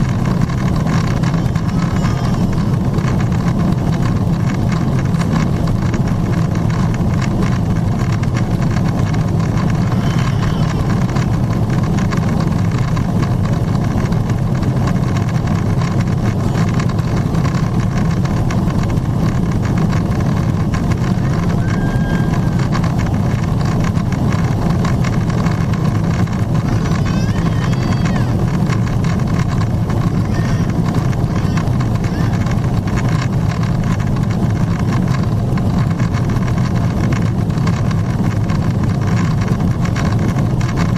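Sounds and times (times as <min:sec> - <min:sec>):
jet engines droning: 0:00.0 - 0:35.3.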